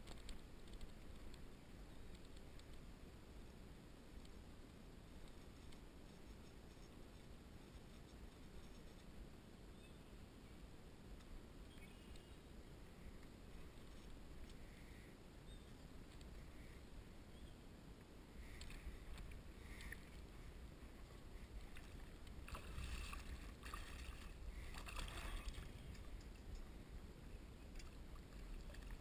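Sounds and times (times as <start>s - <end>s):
faint low rumble: 0.0s - 29.0s.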